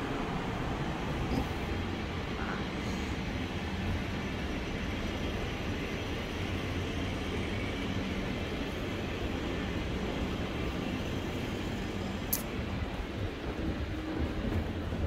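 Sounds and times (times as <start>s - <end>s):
urban traffic rumble: 0.0s - 15.0s.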